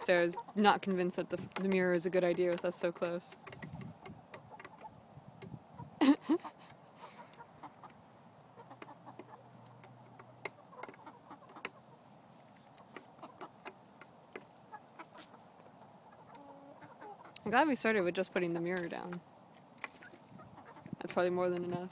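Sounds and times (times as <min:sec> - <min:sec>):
beaks pecking at food: 0:00.0 - 0:05.5, 0:08.6 - 0:17.6, 0:18.3 - 0:21.8
chickens clucking: 0:00.0 - 0:21.9.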